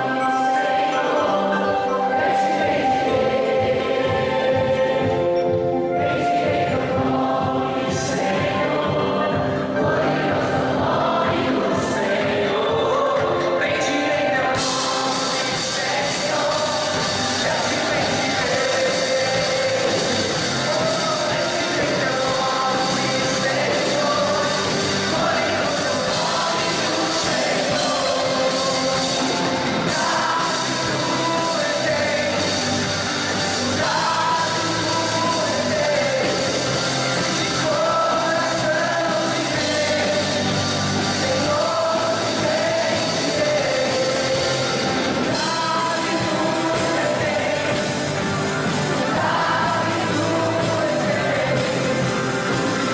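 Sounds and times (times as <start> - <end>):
person singing: 0.0 - 52.9
rock band playing live: 0.0 - 52.9.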